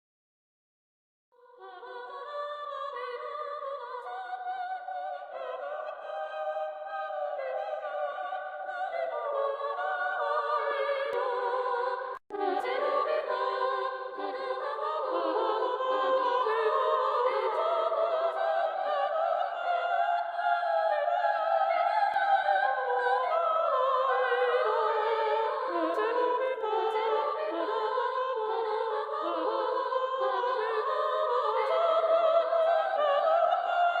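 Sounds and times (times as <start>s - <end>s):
choir singing high: 1.6s - 34.0s.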